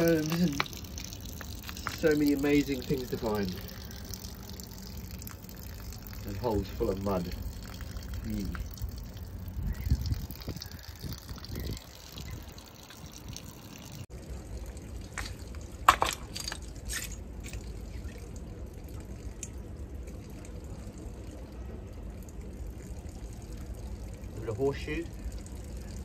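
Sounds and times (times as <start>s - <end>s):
water trickling and dripping: 0.0s - 26.0s.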